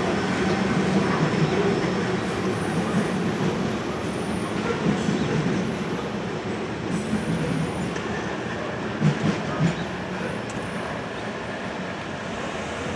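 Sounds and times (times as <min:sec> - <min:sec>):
train wheels rumbling on rail: 0:00.0 - 0:12.9
wheels clacking on rail: 0:00.0 - 0:12.9.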